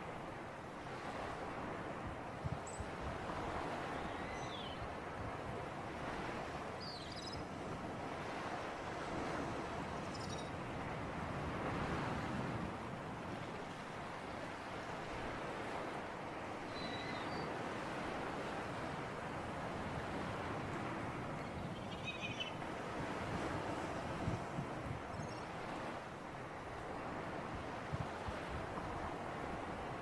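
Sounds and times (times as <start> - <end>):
sea waves washing in: 0.0 - 30.0
steady breeze: 0.0 - 30.0.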